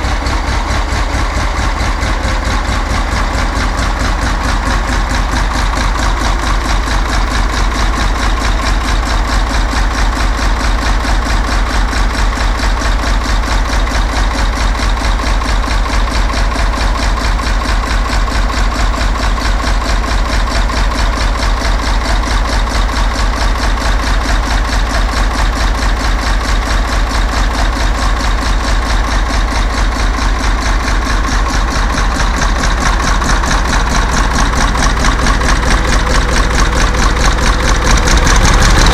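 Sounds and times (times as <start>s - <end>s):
diesel tractor engine idling: 0.0s - 38.9s.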